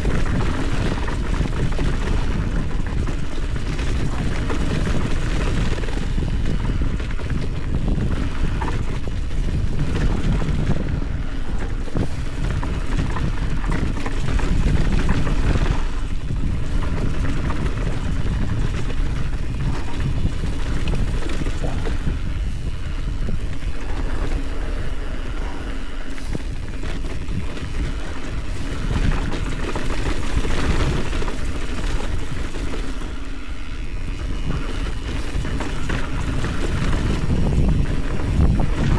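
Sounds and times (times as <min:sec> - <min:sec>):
bike rattling: 0:00.0 - 0:38.9
tyres rolling over dirt trail: 0:00.0 - 0:38.9
wind on microphone: 0:00.0 - 0:38.9.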